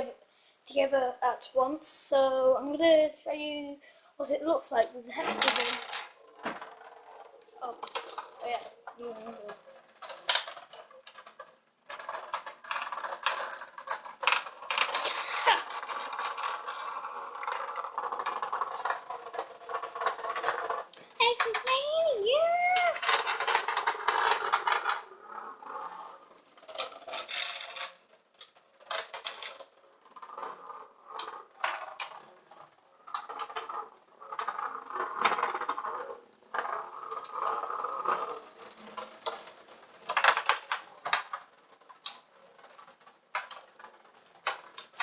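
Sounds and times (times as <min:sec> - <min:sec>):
toy robot bug rattling on plastic: 0:04.7 - 0:45.0.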